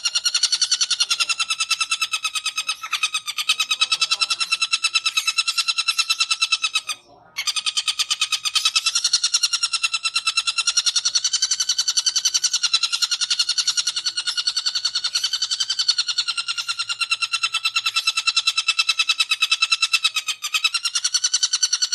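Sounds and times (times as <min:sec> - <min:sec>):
bird chattering harshly: 0:00.0 - 0:21.9.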